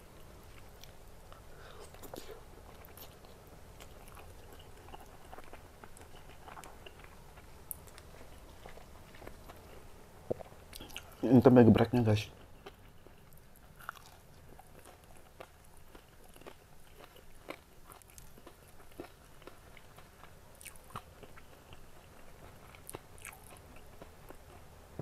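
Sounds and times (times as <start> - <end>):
person chewing crispy food: 0.4 - 11.2, 12.4 - 24.7.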